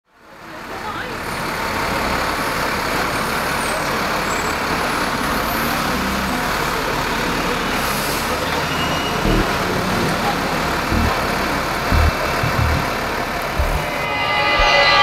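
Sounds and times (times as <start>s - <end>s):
city street traffic: 0.1s - 14.4s.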